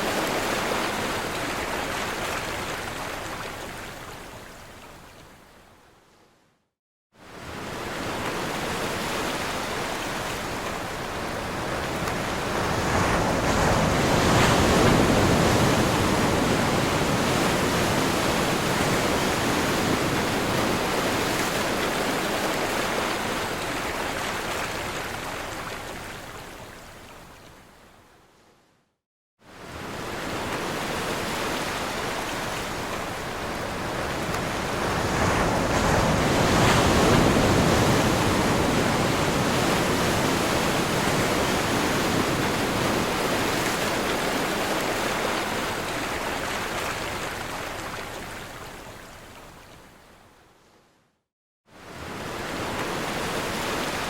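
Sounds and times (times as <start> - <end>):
ocean waves crashing on shore: 0.0 - 4.4, 7.2 - 26.0, 29.5 - 49.1, 51.7 - 54.0.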